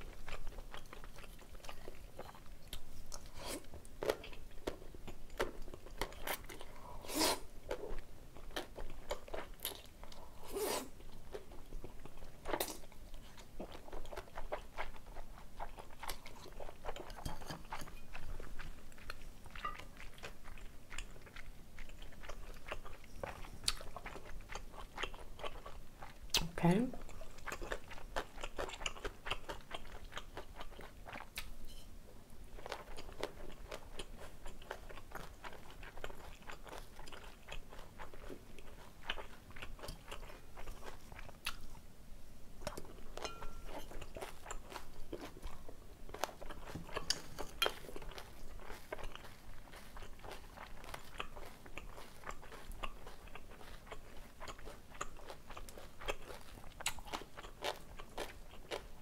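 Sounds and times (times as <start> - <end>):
person chewing noodles: 0.0 - 26.4, 27.0 - 31.6, 32.5 - 41.8, 42.6 - 59.0.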